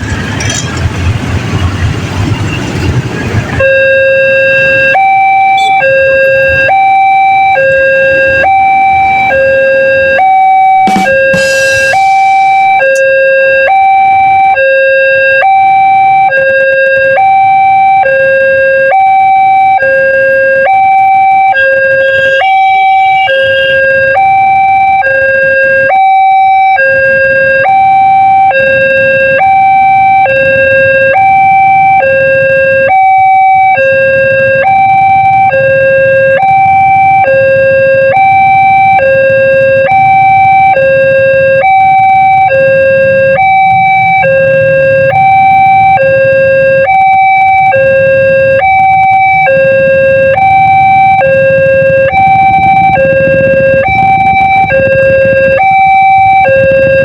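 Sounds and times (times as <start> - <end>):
two-tone level crossing siren: 3.0 - 57.0.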